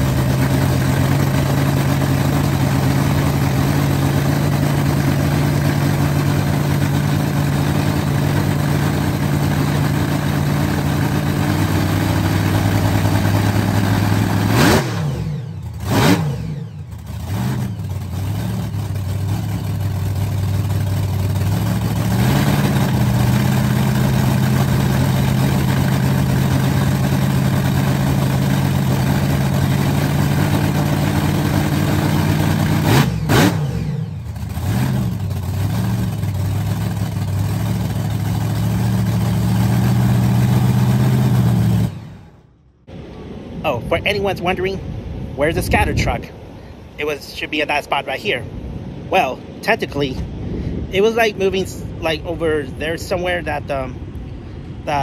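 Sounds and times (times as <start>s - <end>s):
large engine idling and revving: 0.0s - 47.0s.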